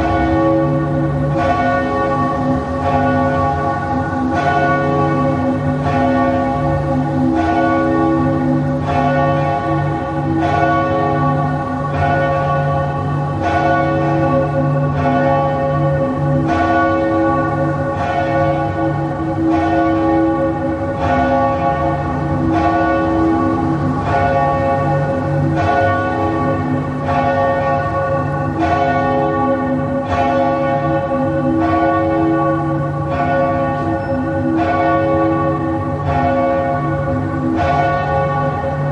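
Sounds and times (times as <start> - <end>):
church bells tolling: 0.0 - 38.9.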